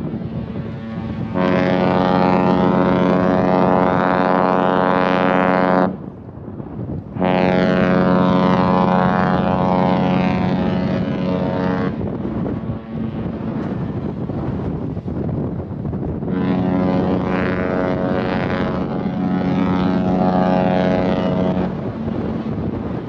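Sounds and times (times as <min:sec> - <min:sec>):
deep ship horn blasts: 0:00.0 - 0:23.0.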